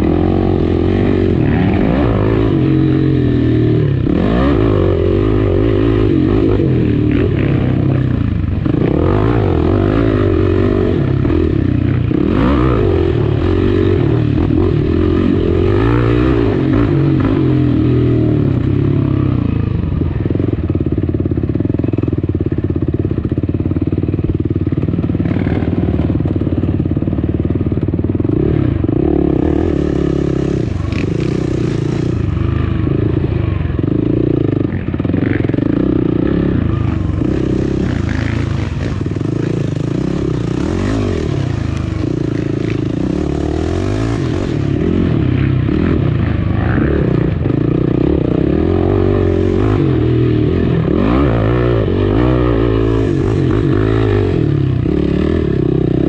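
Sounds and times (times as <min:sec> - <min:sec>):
dirt bike engine revving: 0:00.0 - 0:20.5, 0:24.7 - 0:56.0.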